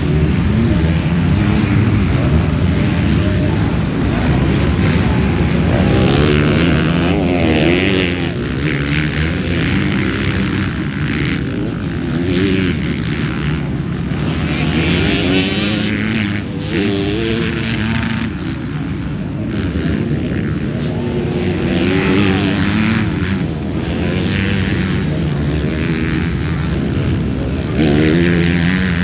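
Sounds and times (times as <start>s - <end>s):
motocross bikes engines revving: 0.0s - 29.0s.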